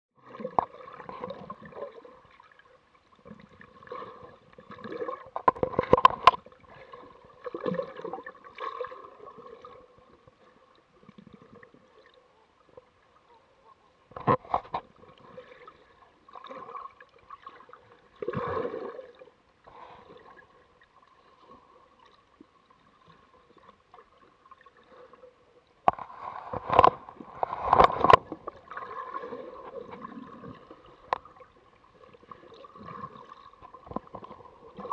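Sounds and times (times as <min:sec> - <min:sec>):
muffled water sloshing and gurgling: 0:00.2 - 0:34.9.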